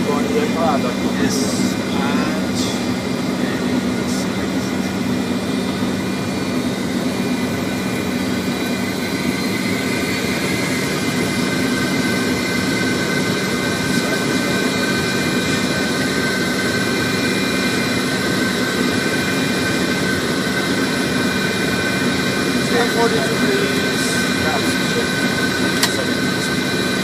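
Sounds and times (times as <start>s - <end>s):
faint high whines: 0.0s - 27.0s
jet engine hum: 0.0s - 27.0s
low drone: 0.0s - 27.0s.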